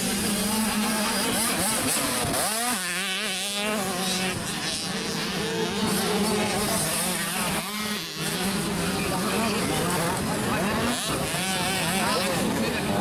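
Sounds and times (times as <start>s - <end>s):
drone of other bikes: 0.0s - 13.0s
motocross bike engine revving: 0.0s - 13.0s.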